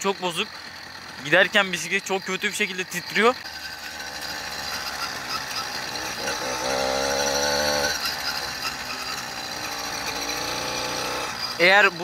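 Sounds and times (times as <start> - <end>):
small two-stroke engine buzzing: 0.0 - 12.0.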